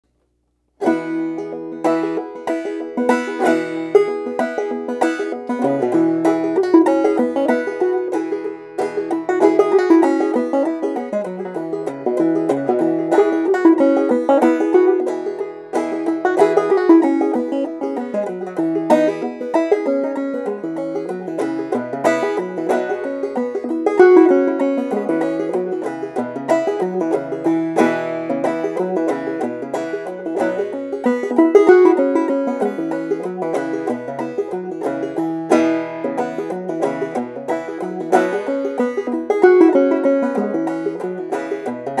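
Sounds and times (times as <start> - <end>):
banjo plucking: 0.8 - 42.0.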